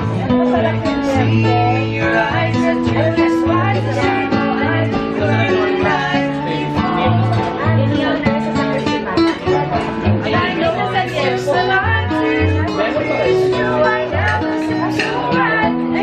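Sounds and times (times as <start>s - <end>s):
acoustic guitar: 0.0s - 16.0s
woman and man singing together: 0.0s - 16.0s.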